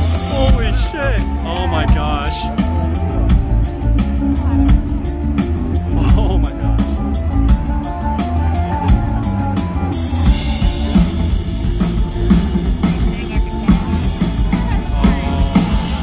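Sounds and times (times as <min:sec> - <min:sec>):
driving drumbeat: 0:00.0 - 0:16.0
rock band playing: 0:00.0 - 0:16.0.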